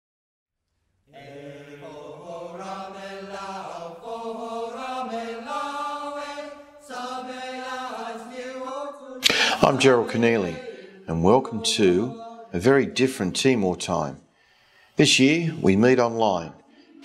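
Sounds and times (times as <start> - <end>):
vocal chanting: 1.1 - 17.0.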